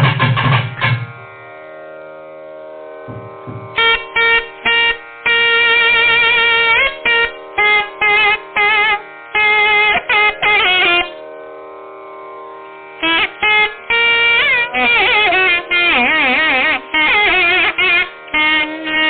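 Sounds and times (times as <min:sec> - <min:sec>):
nadaswaram melody: 0:00.0 - 0:19.0.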